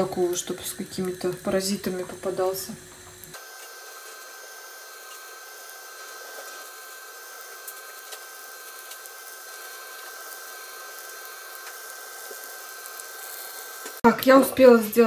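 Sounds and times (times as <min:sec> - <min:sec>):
fish frying in oil: 0:00.0 - 0:14.0.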